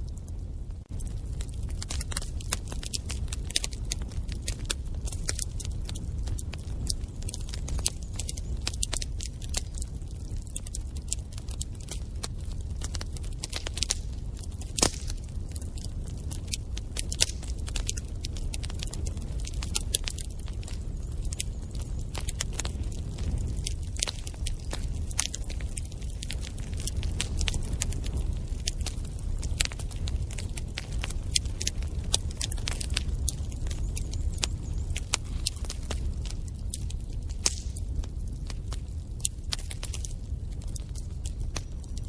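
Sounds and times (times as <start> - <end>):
fire crackling and popping: 0.0 - 42.0
low rumble of flames: 0.0 - 42.0.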